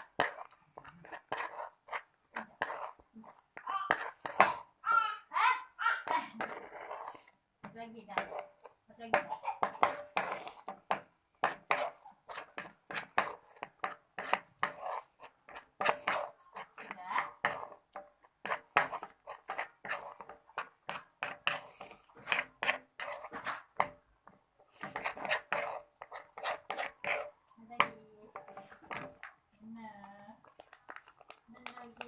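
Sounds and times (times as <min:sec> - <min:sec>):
slime squelching while stirred: 0:00.0 - 0:04.8, 0:06.0 - 0:07.5, 0:08.2 - 0:29.6, 0:30.4 - 0:32.0.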